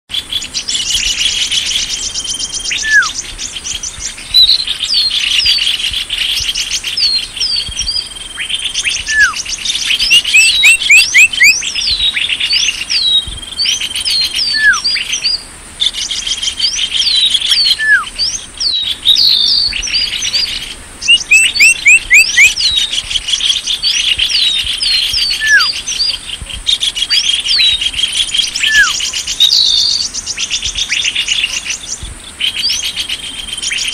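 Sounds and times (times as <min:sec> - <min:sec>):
small birds chattering trills: 0:00.1 - 0:33.9.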